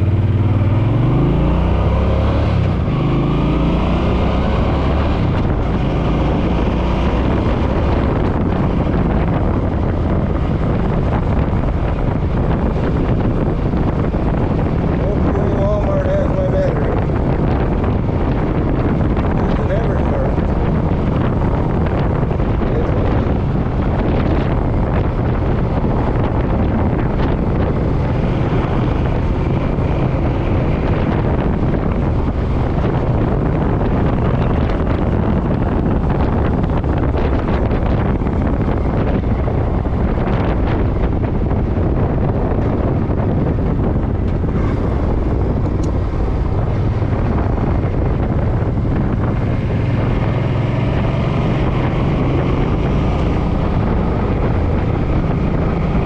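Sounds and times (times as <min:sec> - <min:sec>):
motorcycle engine hum: 0:00.0 - 0:56.0
wind rushing over microphone: 0:00.0 - 0:56.0.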